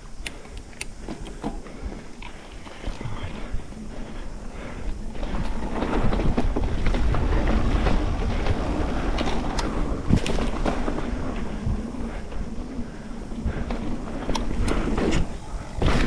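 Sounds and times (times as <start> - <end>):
bike clicks and rattles: 0.0 - 16.0
bike tyres rumbling on dirt: 0.0 - 16.0.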